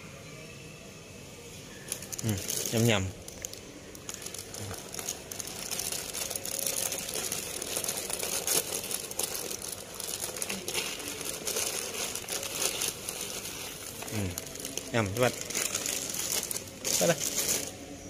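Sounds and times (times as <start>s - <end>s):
plastic bag of kibble crinkling: 1.8s - 18.0s.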